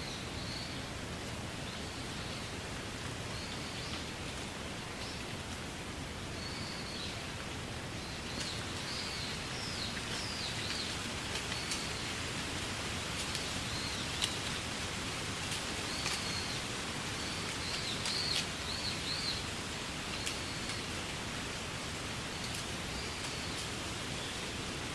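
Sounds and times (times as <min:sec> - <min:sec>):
wind rustling through reeds: 0:00.0 - 0:24.9.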